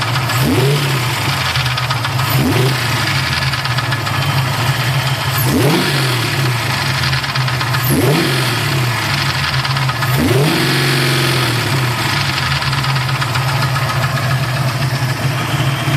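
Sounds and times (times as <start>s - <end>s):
engine idling and revving: 0.0s - 15.9s.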